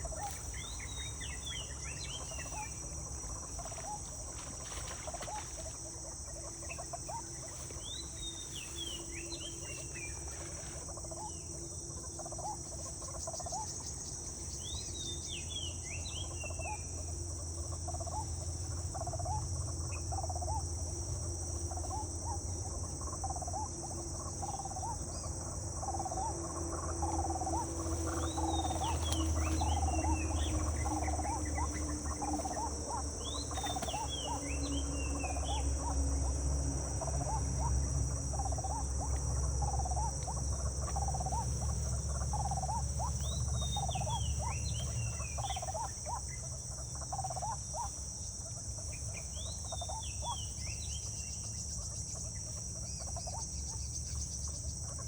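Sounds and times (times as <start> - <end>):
bird chirps: 0.0 - 20.8, 21.6 - 55.0
high insect drone: 0.0 - 55.0.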